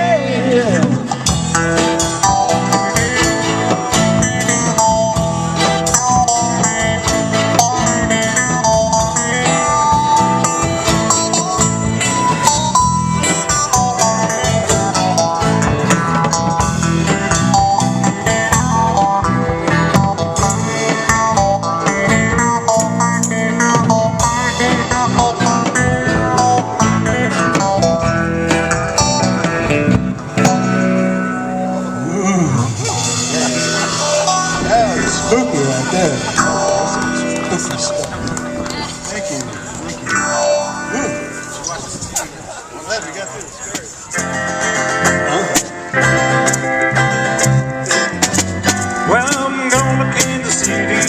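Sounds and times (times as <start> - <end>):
live band playing: 0.0 - 51.0
plucked guitar melody: 0.0 - 51.0.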